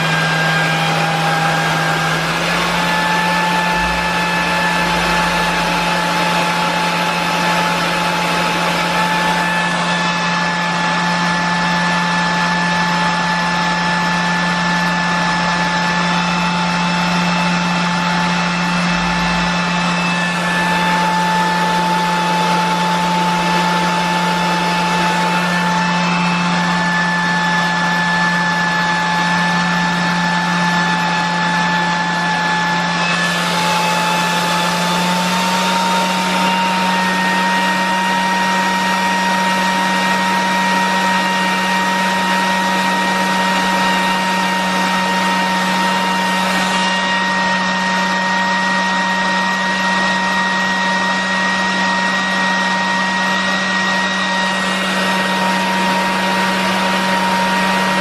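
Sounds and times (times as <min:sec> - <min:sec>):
vacuum cleaner motor whining: 0:00.0 - 0:58.0.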